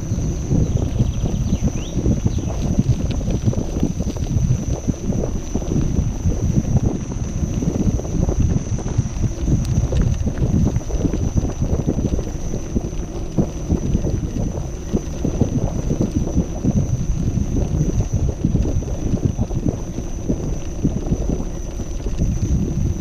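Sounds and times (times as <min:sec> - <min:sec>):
tyre rolling over cobblestones: 0:00.0 - 0:23.0
wind on microphone: 0:00.0 - 0:23.0.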